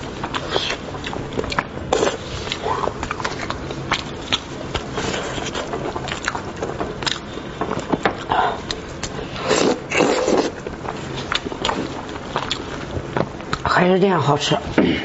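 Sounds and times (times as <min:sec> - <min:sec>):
wet chewing and lip smacking: 0:00.0 - 0:13.7.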